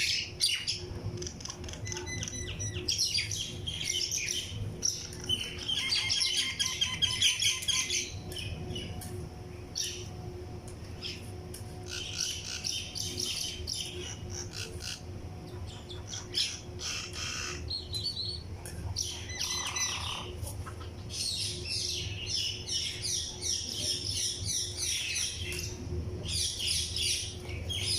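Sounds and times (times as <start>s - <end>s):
small birds chirping: 0.0s - 10.3s, 10.9s - 27.9s.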